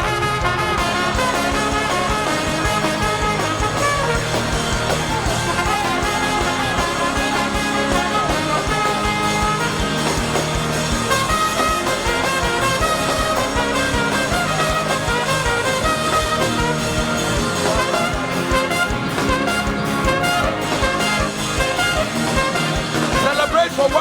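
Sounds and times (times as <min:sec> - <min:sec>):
band playing gospel song: 0:00.0 - 0:24.0
drum beat: 0:00.0 - 0:24.0.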